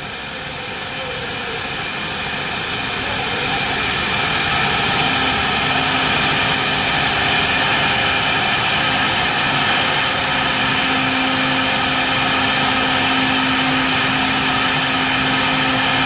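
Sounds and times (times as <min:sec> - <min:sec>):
wood router whining: 0:00.0 - 0:16.0.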